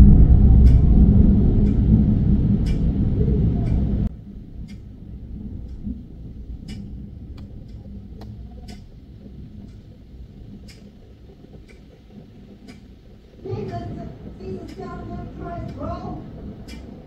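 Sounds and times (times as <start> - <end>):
low rumble of thunder: 0.0 - 17.0
rain hissing: 0.0 - 17.0.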